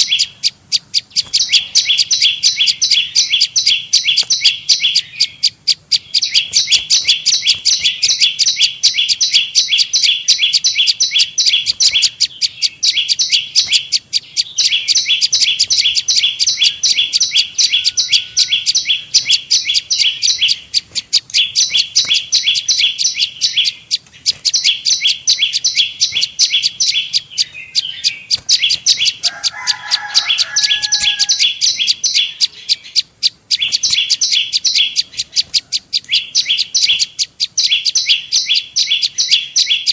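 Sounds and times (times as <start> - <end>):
lower bird call: 0.0 - 39.9
rapid high bird chirps: 0.0 - 39.9.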